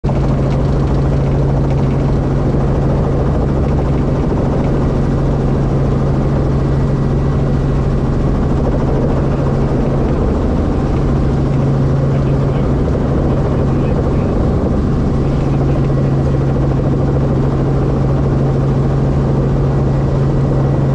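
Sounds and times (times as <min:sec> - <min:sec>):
helicopter rotor and engine: 0:00.0 - 0:20.9.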